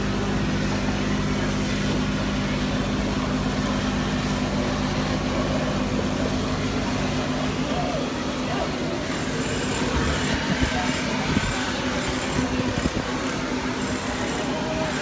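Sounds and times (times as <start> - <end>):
noisy background: 0.0 - 15.0.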